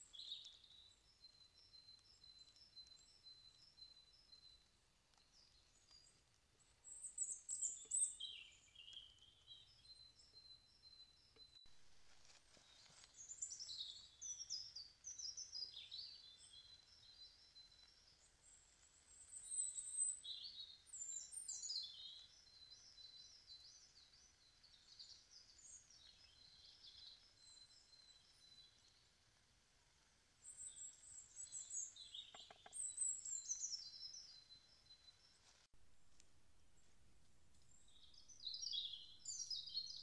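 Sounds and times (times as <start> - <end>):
songbirds chirping and trilling: 0.0 - 11.7, 12.3 - 29.3, 30.3 - 35.7, 37.7 - 40.0.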